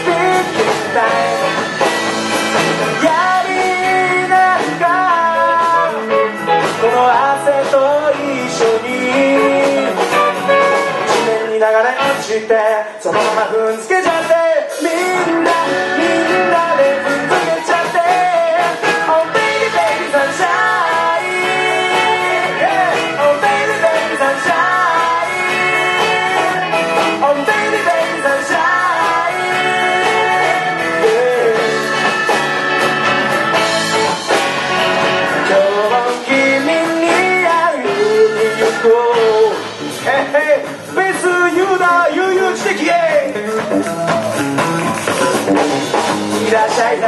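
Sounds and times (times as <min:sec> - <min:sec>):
guitar: 0:00.0 - 0:47.0
live rock band playing: 0:00.0 - 0:47.0.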